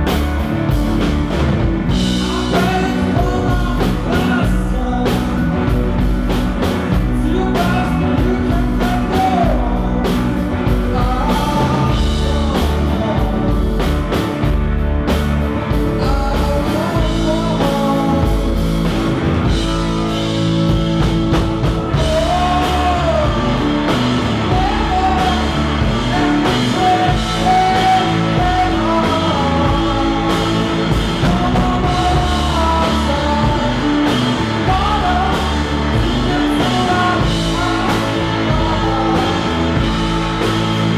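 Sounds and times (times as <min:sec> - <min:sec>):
electric guitar and drums: 0:00.0 - 0:40.9
man singing: 0:01.8 - 0:14.4, 0:15.7 - 0:20.7, 0:21.8 - 0:40.9.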